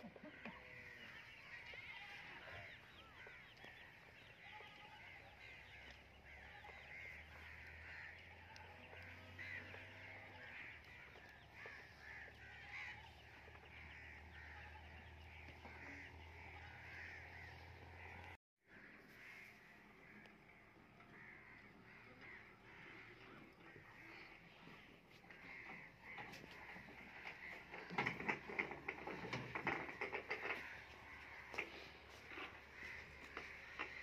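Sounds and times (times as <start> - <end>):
birds twittering: 0.0 - 34.0.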